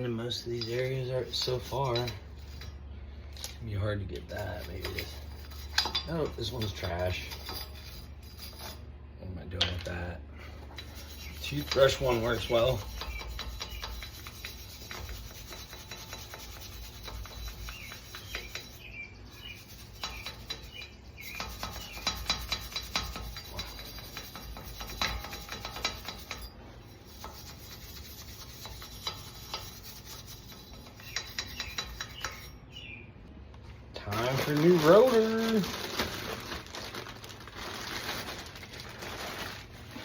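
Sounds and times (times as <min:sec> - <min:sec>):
wire brush scratching metal: 0:00.0 - 0:02.8, 0:03.4 - 0:08.8, 0:10.7 - 0:32.9, 0:34.0 - 0:40.0.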